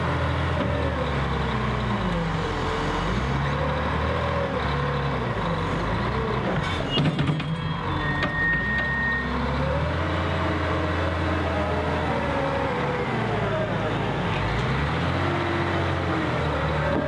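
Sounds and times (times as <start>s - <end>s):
wheel loader diesel engine: 0.0s - 17.0s.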